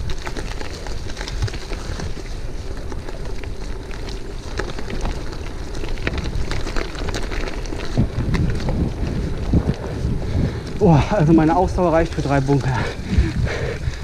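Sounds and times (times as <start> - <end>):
bike rattling clicks: 0.0 - 14.0
tyres crackling on dry leaves: 0.0 - 14.0
wind rumble on microphone: 0.0 - 14.0.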